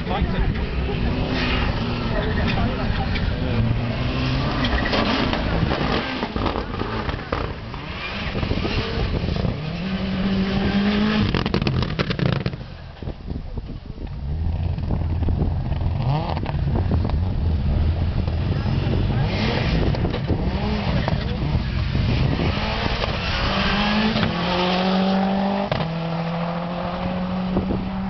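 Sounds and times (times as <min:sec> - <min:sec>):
rally car engine revving: 0:00.0 - 0:12.8, 0:14.1 - 0:28.0.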